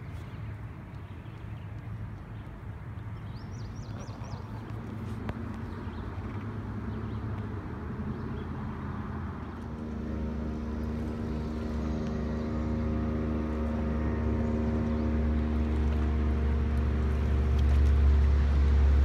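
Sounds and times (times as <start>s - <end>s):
motorboat engine droning: 3.4s - 19.0s.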